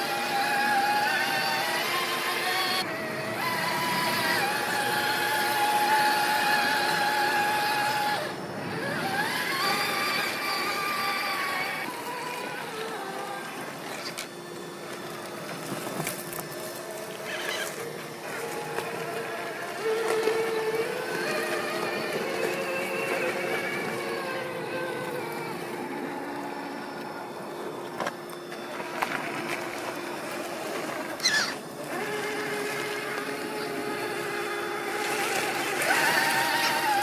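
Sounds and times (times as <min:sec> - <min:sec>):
electric motor and gearbox whining: 0:00.0 - 0:37.0.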